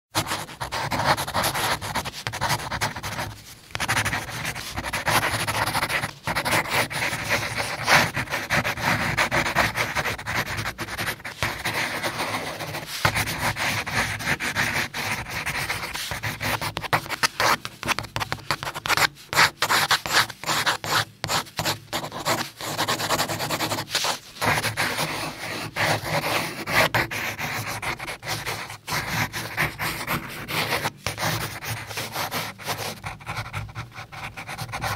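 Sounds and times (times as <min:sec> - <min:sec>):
pencil scratching on paper: 0:00.2 - 0:34.9.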